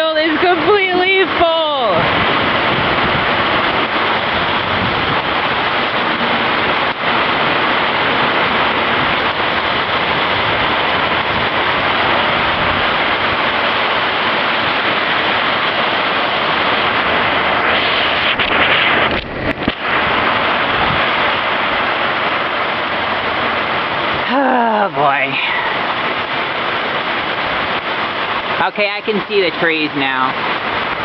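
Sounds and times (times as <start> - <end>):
heavy rain and hail: 0.0 - 31.0.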